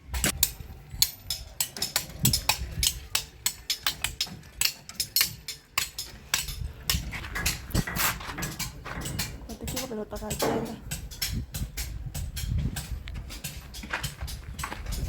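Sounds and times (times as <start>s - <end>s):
hammering knocks: 0.2s - 15.0s.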